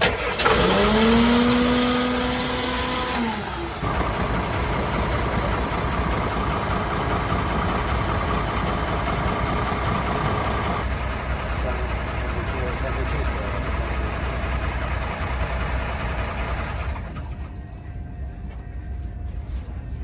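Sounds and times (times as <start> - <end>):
boat engine running: 0.0 - 17.6
boat engine starter whine: 0.0 - 17.6.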